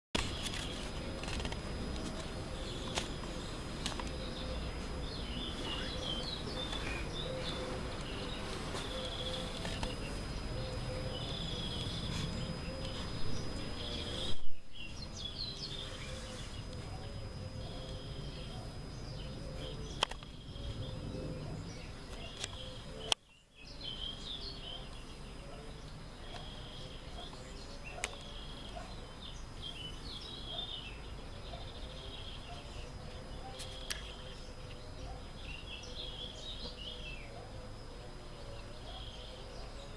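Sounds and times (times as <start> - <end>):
small birds chirping: 0.2 - 39.9
steady background hum: 0.2 - 39.9.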